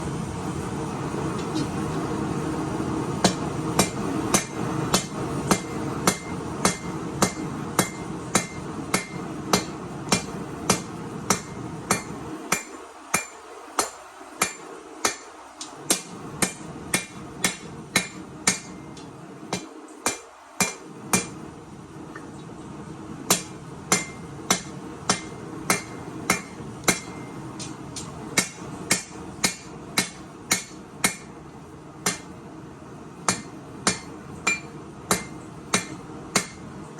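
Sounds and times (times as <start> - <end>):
hammer striking steel on anvil: 3.2 - 21.4, 23.3 - 31.4, 32.0 - 32.3, 33.3 - 36.7.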